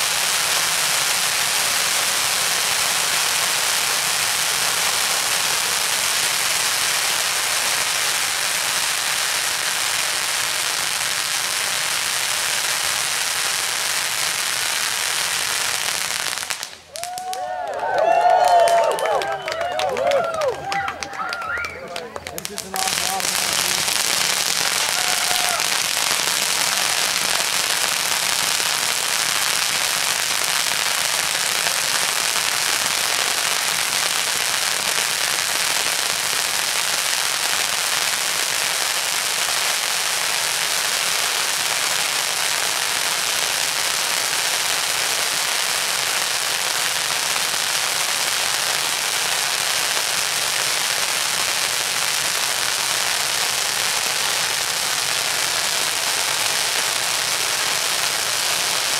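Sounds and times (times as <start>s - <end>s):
fireworks crackling: 0.0s - 58.9s.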